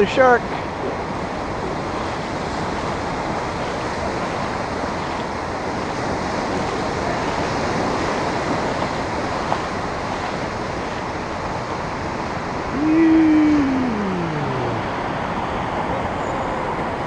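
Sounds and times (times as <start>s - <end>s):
small waves washing over sand: 0.0s - 17.0s.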